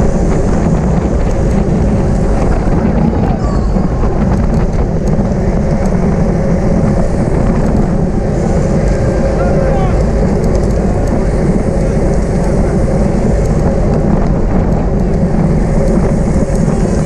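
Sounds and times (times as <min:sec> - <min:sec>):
bicycle road noise: 0:00.0 - 0:17.0
wind rush: 0:00.0 - 0:17.0.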